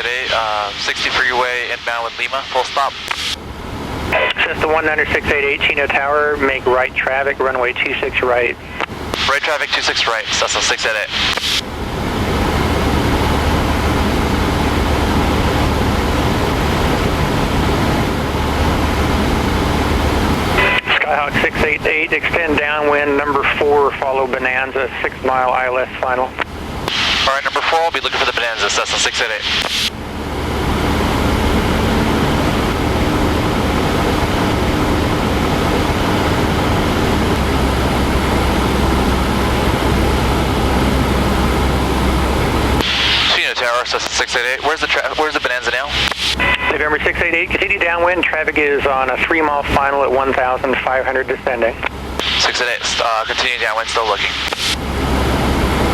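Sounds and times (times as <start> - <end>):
aircraft engine and propeller drone: 0.0 - 55.9.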